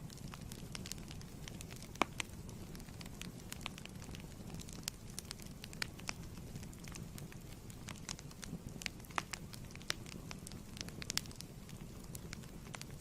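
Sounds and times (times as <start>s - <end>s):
wood fire crackling: 0.0s - 13.0s
sharp pops and snaps: 0.1s - 13.0s.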